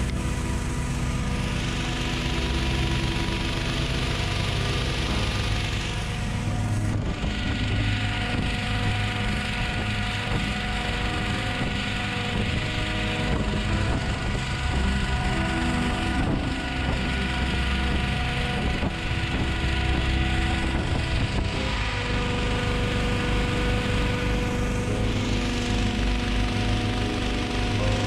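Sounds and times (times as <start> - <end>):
petrol inflator fan running: 0.0 - 28.0.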